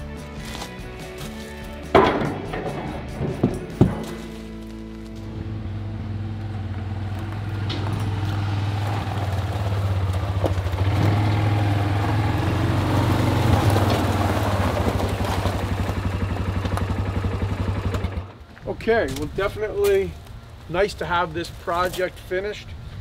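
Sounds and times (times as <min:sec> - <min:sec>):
atv engine running: 0:00.0 - 0:19.3.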